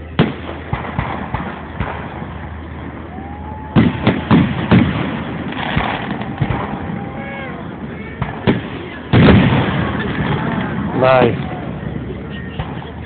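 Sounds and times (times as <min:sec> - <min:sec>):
firework bangs: 0:00.0 - 0:13.0
firework crackling: 0:00.0 - 0:13.0.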